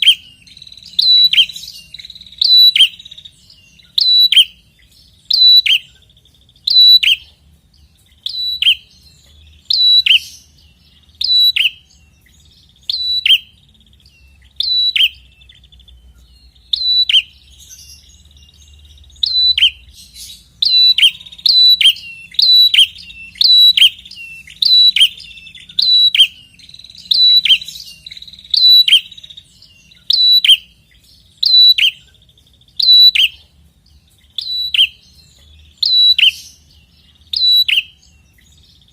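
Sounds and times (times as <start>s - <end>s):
bird singing high notes: 0.0s - 38.9s
faint buzzy bird trills: 0.0s - 38.9s.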